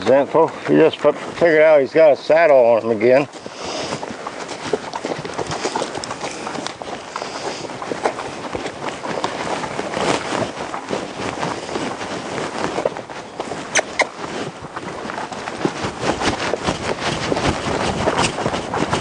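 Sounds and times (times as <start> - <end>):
horse hooves on sandy dirt: 0.0 - 19.0.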